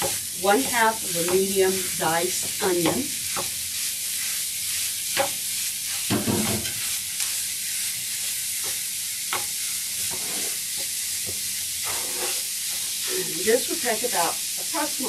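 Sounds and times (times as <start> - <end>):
spatula scraping pan: 0.0 - 14.2
ground beef sizzling in skillet: 0.0 - 15.0.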